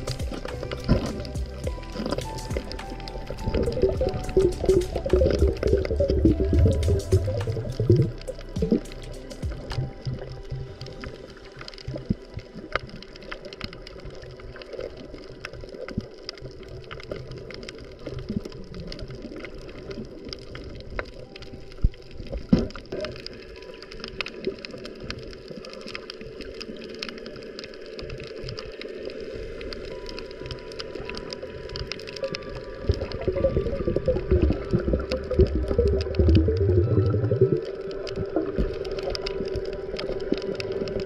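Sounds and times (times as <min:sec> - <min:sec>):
muffled underwater hiss: 0:00.0 - 0:41.0
small underwater clicks: 0:00.0 - 0:41.0.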